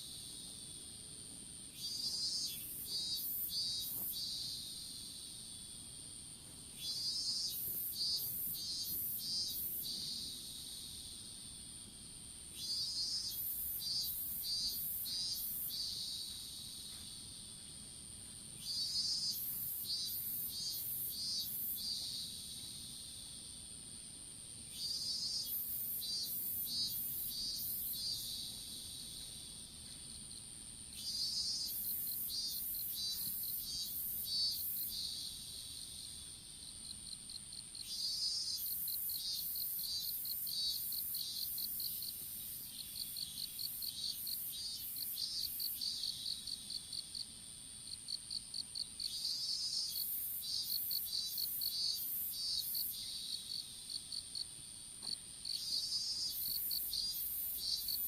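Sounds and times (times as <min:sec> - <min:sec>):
insect high-pitched trill: 0:01.7 - 0:05.8, 0:06.7 - 0:11.8, 0:12.4 - 0:58.0
insects rapid high chirps: 0:01.7 - 0:05.8, 0:06.8 - 0:11.7, 0:12.5 - 0:24.0, 0:24.6 - 0:47.2, 0:48.1 - 0:58.0.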